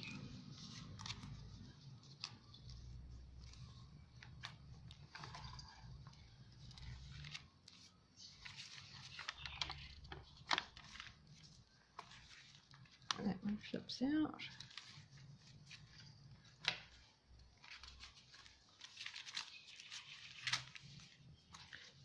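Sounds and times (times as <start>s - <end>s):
paper rustling and clicking: 0.0s - 13.8s, 14.4s - 22.0s.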